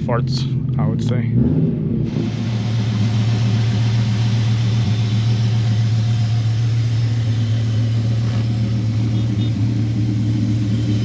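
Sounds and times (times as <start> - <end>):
engine idling deep tone: 0.0 - 11.0.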